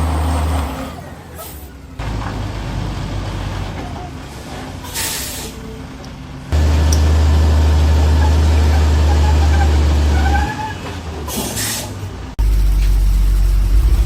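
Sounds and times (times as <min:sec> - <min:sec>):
air brakes hissing: 0:00.0 - 0:14.0
truck engine drone: 0:00.0 - 0:14.0.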